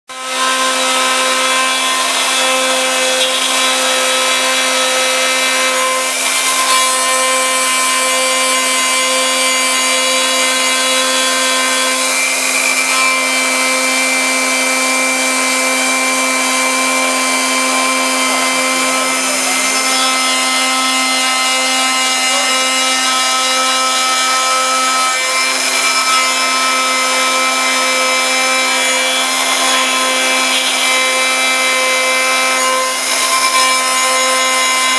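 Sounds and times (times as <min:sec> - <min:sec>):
milling machine cutting metal: 0:00.1 - 0:34.9.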